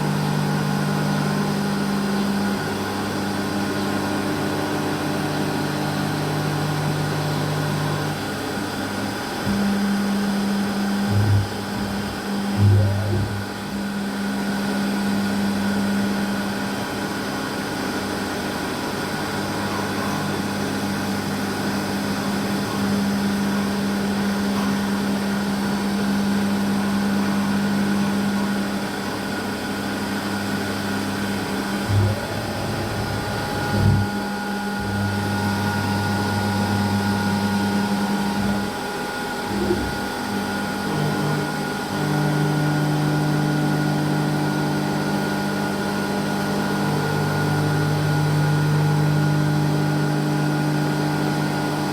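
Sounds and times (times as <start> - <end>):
milling machine humming: 0.0 - 51.9.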